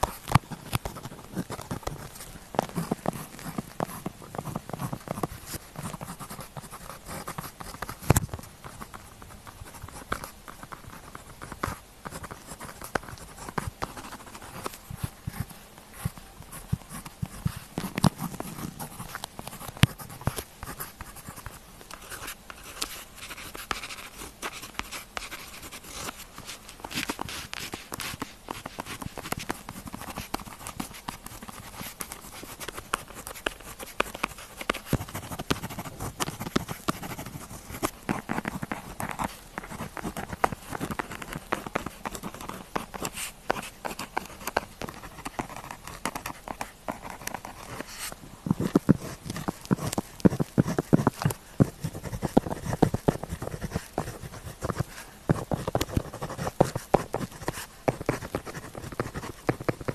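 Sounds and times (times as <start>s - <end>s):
pen scratching on paper: 0.0s - 9.0s, 9.6s - 59.9s.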